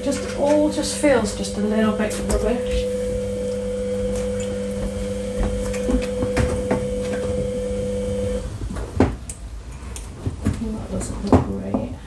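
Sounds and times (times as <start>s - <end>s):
two-tone machine hum: 0.0s - 9.8s.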